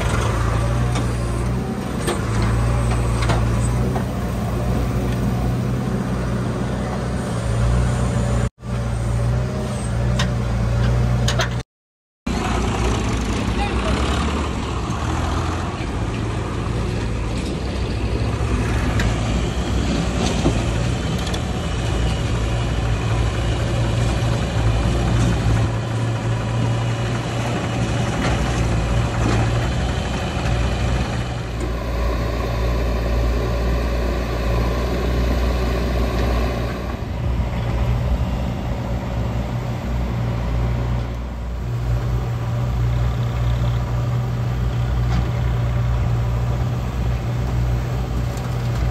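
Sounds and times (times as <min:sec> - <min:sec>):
diesel engines running: 0:00.0 - 0:11.6, 0:12.3 - 0:48.9.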